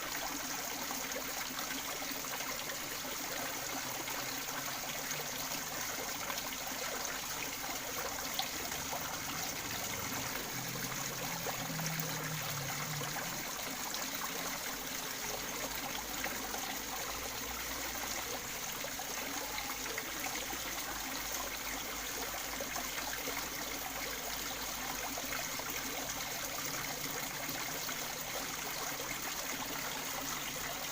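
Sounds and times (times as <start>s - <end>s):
water trickling in a pond: 0.0s - 30.9s.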